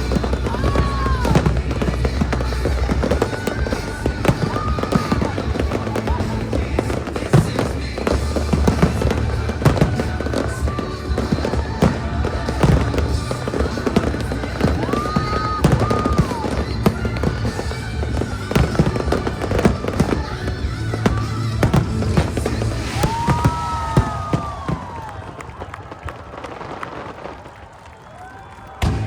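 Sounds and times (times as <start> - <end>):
loud music: 0.0 - 24.8
fireworks bangs and crackles: 0.0 - 29.0.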